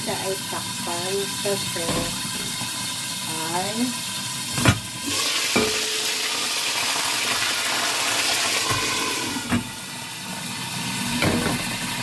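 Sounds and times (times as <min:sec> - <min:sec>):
fish frying in sizzling oil: 0:00.0 - 0:12.0.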